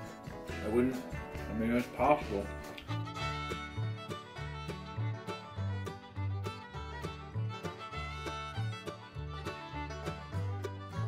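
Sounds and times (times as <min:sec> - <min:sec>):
background music with quick beat: 0:00.0 - 0:11.0.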